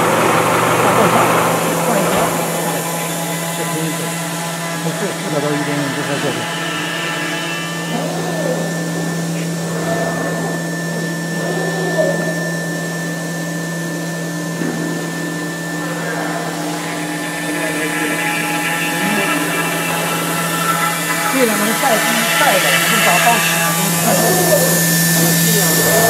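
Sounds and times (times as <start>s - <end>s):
router spindle hum: 0.0s - 26.0s.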